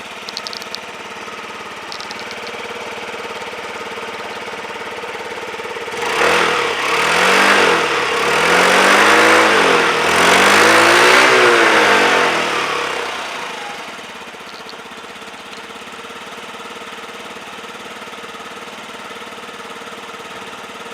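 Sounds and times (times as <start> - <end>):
scooter engine idling and revving: 0.0 - 20.9.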